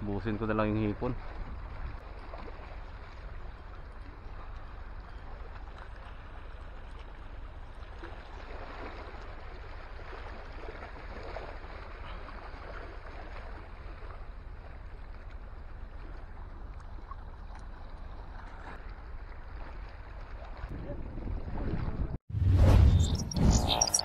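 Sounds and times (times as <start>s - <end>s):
wind rumble on microphone: 0.0s - 24.0s
small waves lapping against rocks: 0.2s - 22.1s.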